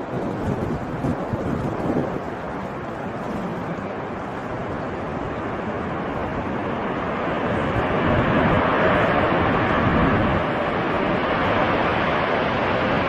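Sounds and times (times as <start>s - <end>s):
jet aircraft landing approach: 0.0s - 13.0s.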